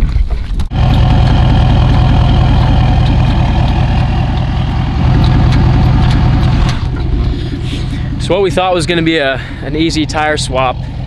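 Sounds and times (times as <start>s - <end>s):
truck engine idling: 0.7s - 11.0s.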